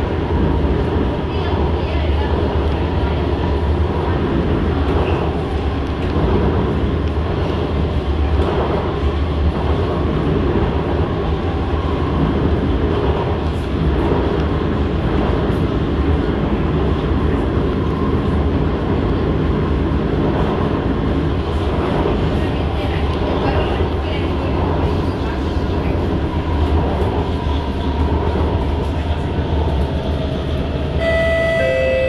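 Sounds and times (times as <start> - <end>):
metro car rumbling on track: 0.0 - 32.0.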